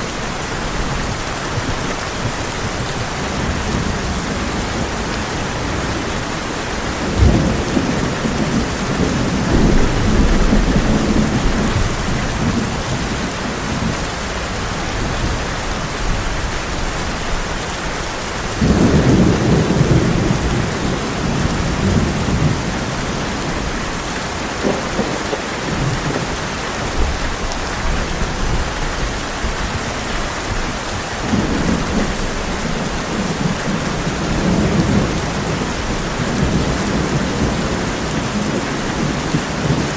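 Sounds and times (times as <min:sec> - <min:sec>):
heavy rain on a tin roof: 0:00.0 - 0:39.9
low thunder rolls: 0:00.0 - 0:39.9.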